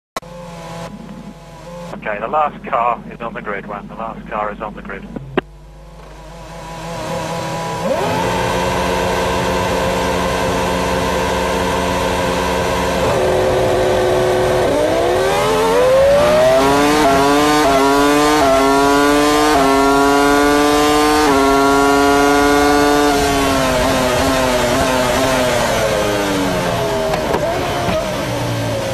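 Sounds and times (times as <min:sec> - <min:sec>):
race car engine revving and upshifting: 0:00.2 - 0:02.0, 0:05.9 - 0:28.9.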